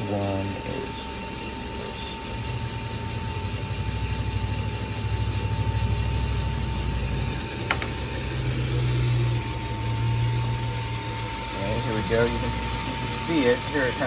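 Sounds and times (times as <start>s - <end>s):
coffee roaster humming: 0.0s - 14.0s.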